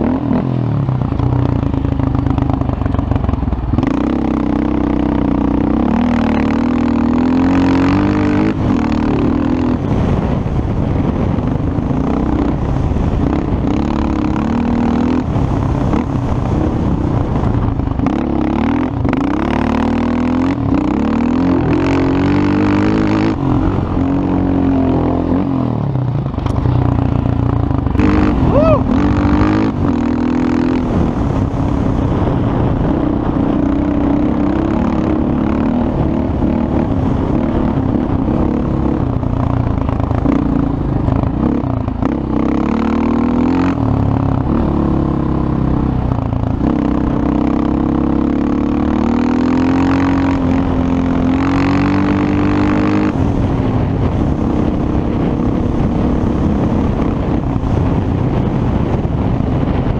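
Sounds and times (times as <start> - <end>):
quad engine revving: 3.8 - 11.2, 11.9 - 39.1, 40.2 - 58.0.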